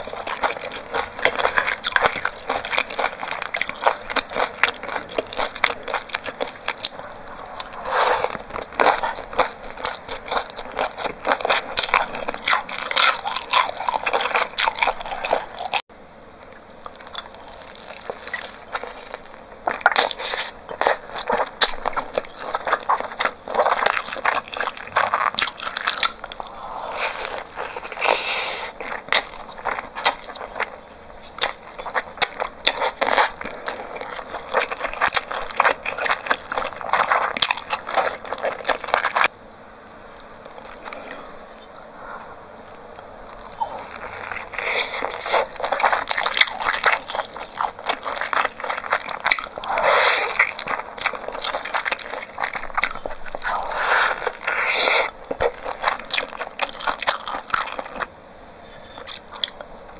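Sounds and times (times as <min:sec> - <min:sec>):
wet biting and chewing: 0:00.0 - 0:39.3, 0:43.0 - 0:58.1
crunchy chewing: 0:00.0 - 0:59.9.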